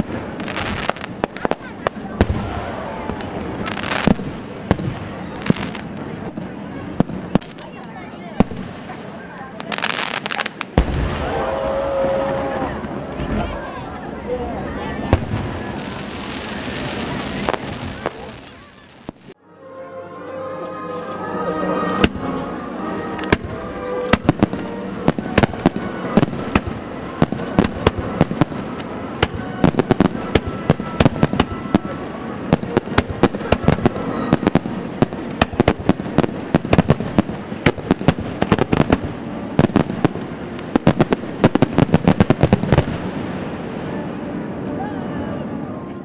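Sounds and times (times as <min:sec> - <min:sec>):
fireworks bangs and crackles: 0:00.0 - 0:19.4, 0:21.8 - 0:44.8.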